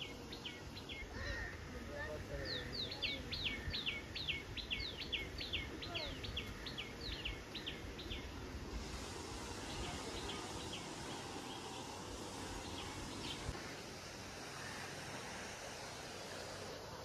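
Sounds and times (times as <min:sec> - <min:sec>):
birds calling: 0:00.0 - 0:17.0
outdoor background noise: 0:00.0 - 0:17.0.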